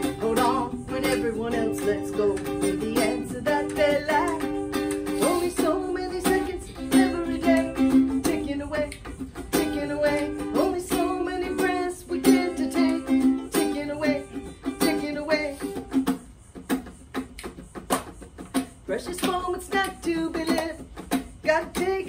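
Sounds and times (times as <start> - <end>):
ukulele strumming chords: 0.0 - 22.0.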